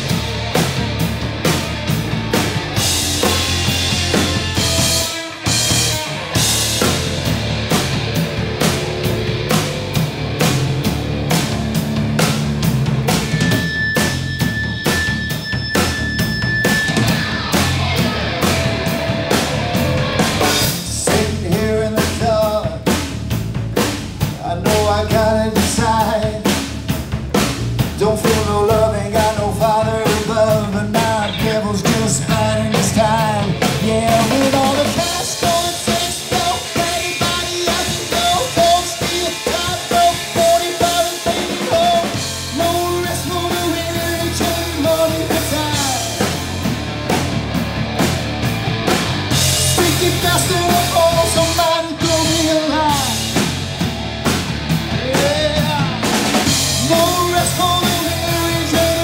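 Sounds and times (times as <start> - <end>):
bass guitar: 0.0 - 59.0
drum kit beat: 0.0 - 59.0
electric guitar lead line: 0.0 - 59.0.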